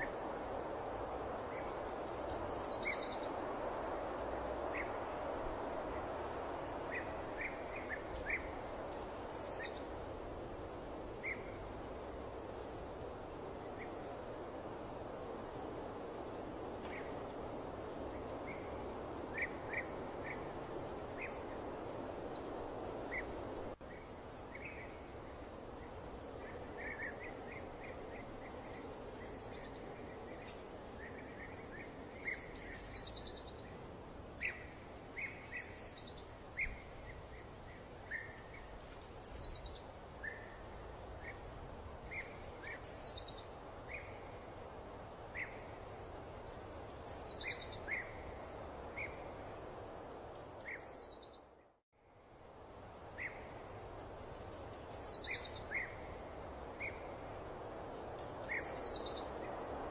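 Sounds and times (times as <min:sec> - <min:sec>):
high falling bird song: 0:00.0 - 0:59.9.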